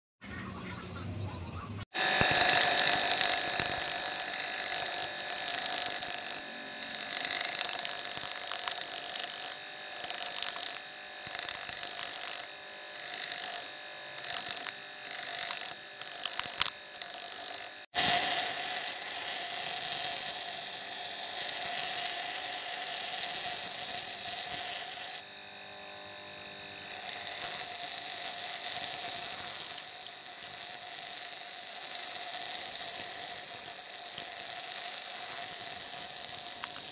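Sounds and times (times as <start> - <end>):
bench grinder grinding steel: 1.9 - 36.9.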